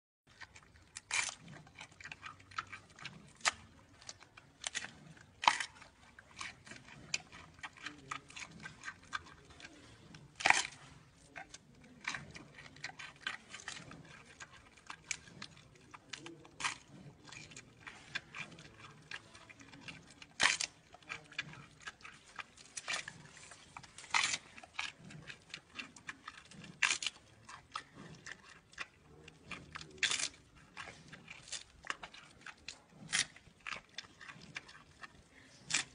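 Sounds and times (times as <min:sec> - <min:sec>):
panda chewing bamboo: 0:00.3 - 0:35.9.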